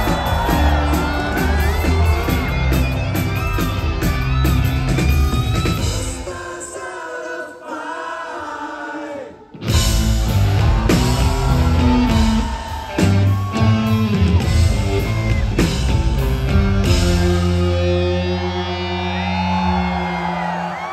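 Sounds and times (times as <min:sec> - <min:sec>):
live rock band playing: 0:00.0 - 0:06.5, 0:09.6 - 0:20.4.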